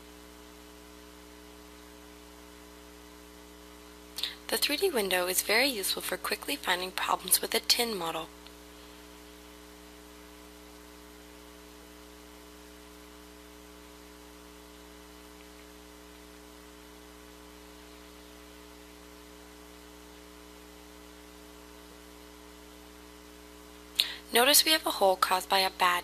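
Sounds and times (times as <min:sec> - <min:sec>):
electrical hum: 0:00.0 - 0:26.0
faint hiss: 0:00.0 - 0:26.0.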